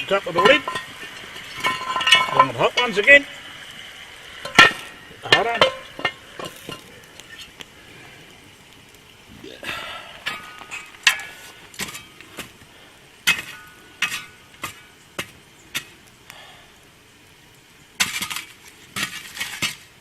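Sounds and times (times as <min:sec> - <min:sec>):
coals shovelled onto metal lid: 0:00.0 - 0:16.4, 0:18.0 - 0:20.0.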